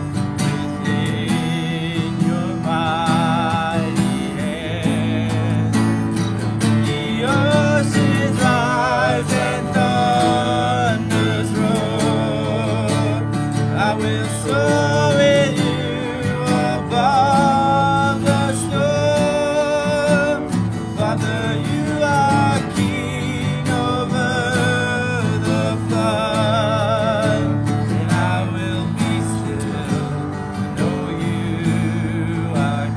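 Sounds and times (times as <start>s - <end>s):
acoustic guitar: 0.0s - 32.9s
person singing: 0.0s - 32.9s.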